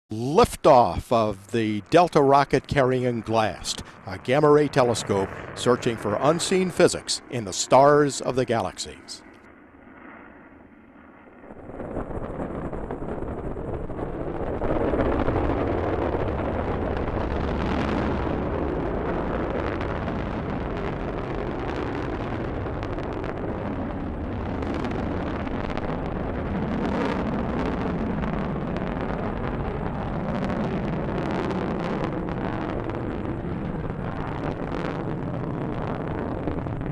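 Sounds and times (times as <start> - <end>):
rocket roaring at liftoff: 0.1 - 36.9.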